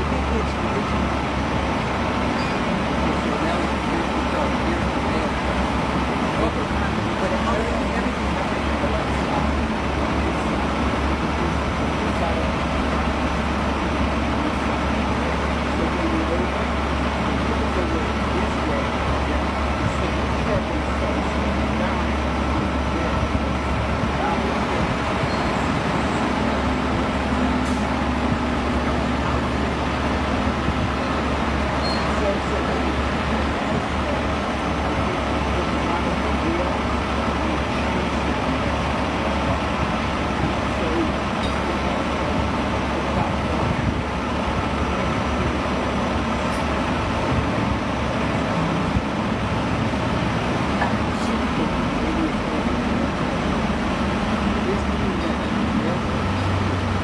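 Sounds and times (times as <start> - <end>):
street traffic noise: 0.0 - 57.0
vehicle engine humming: 0.0 - 57.0.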